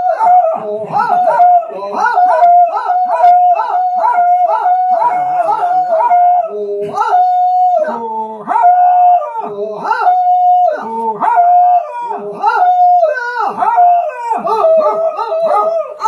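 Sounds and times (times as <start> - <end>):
dog howling: 0.0 - 16.0
lower voice howling: 0.0 - 16.0.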